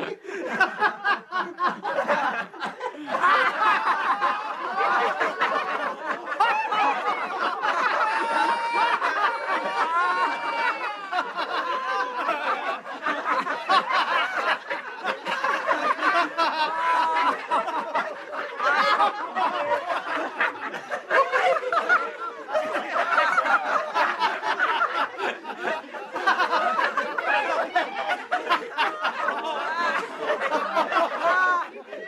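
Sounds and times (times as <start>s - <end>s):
men laughing: 0.0s - 32.0s.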